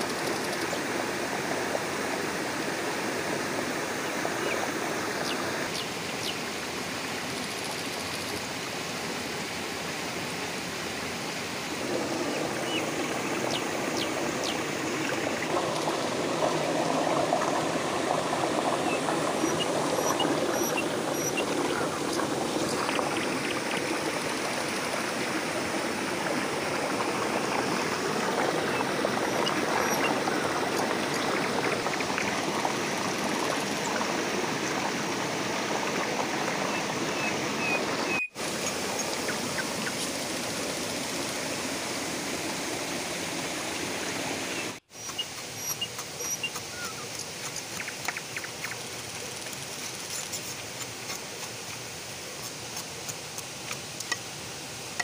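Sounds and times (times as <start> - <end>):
stream splashing over stones: 0.0 - 55.0.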